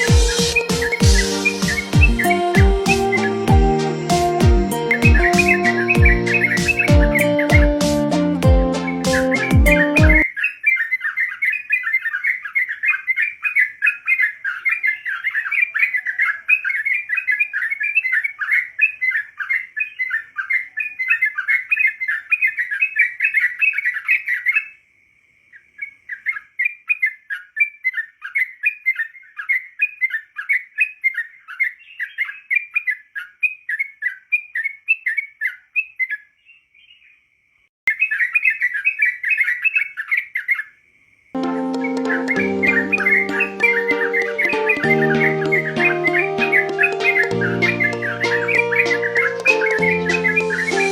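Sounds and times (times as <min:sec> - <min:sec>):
bird chattering chirps: 0:00.0 - 0:24.8, 0:25.8 - 0:37.1, 0:37.9 - 0:40.8, 0:41.8 - 0:50.9.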